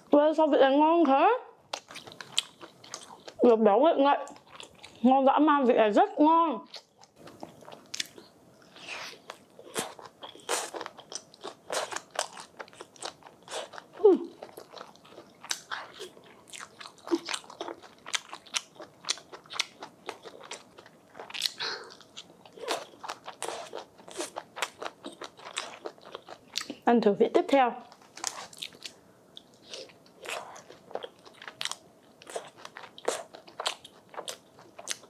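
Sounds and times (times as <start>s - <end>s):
biting and chewing crunches: 1.7s - 3.4s, 6.7s - 26.8s, 27.9s - 35.0s.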